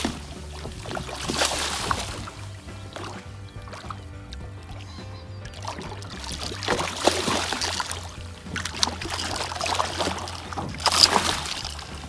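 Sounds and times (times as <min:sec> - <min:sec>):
fish thrashing and splashing: 0:00.0 - 0:12.0.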